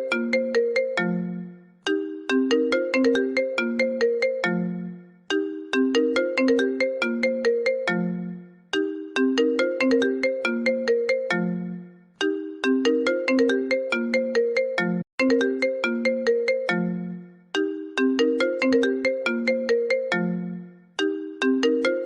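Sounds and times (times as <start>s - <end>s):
phone ringtone melody: 0.0s - 22.0s.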